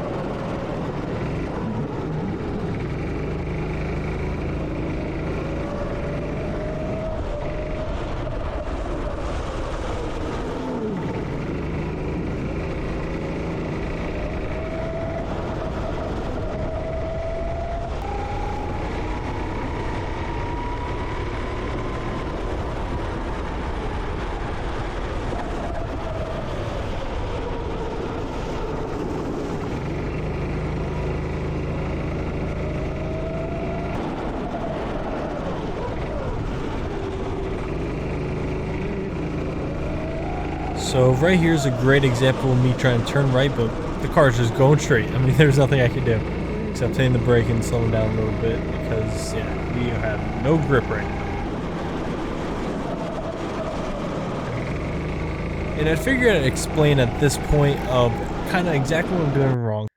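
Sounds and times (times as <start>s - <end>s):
go-kart engine revving: 0.0s - 59.8s.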